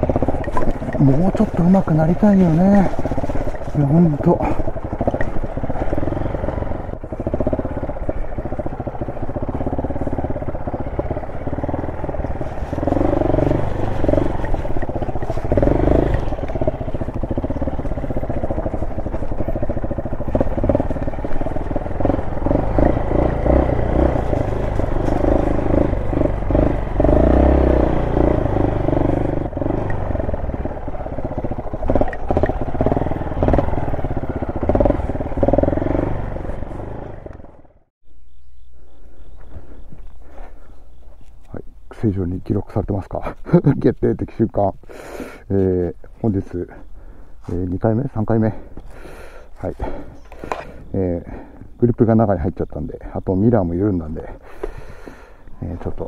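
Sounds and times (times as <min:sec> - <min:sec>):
knocks and rattles from bike: 0:00.0 - 0:37.9, 0:47.8 - 0:56.0
motorcycle engine revving: 0:00.0 - 0:37.9, 0:41.8 - 0:56.0.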